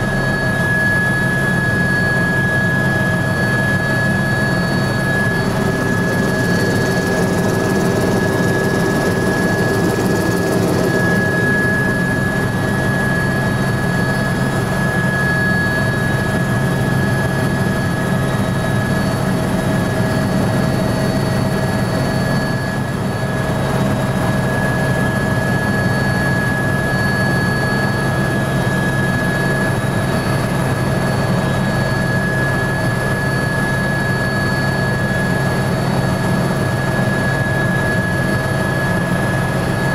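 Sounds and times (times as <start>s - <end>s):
helicopter turbine whine: 0.0s - 39.9s
rotor and engine drone: 0.0s - 39.9s.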